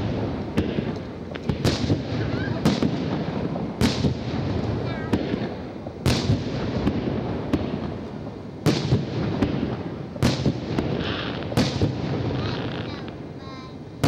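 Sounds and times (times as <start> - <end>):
light firework cracks: 0.0 - 13.3
steady background noise: 0.0 - 14.0.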